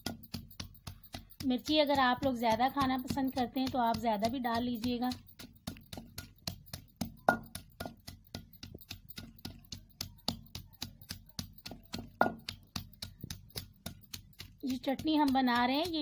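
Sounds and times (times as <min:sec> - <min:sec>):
pestle pounding in a mortar: 0:00.0 - 0:16.0.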